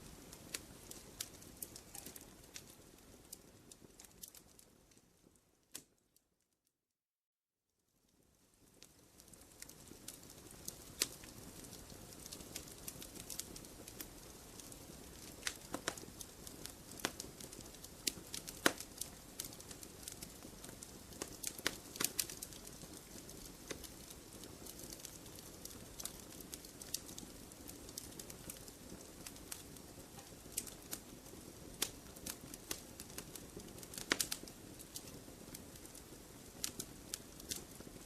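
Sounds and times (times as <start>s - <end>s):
campfire crackling: 0.0s - 6.0s, 8.1s - 38.0s
soft steady hiss: 0.0s - 6.5s, 7.8s - 38.0s.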